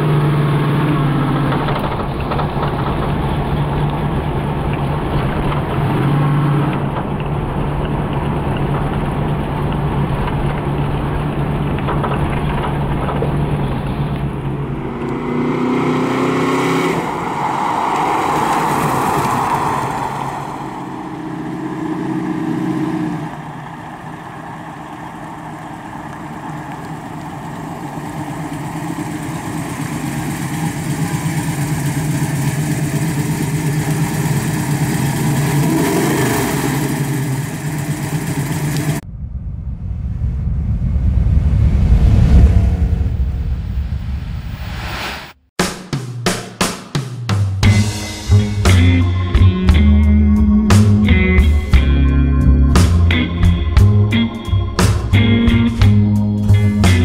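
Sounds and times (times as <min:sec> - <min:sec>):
car engine running and revving: 0:00.0 - 0:39.0, 0:47.7 - 0:57.0.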